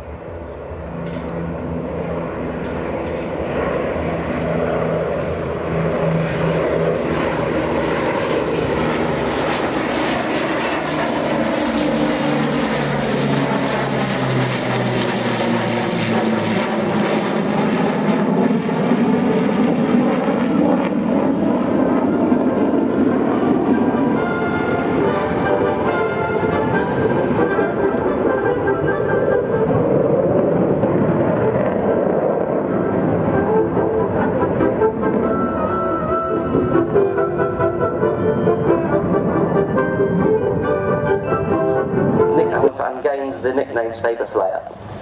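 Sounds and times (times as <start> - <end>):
aircraft engine drone flying past: 0.0 - 45.0.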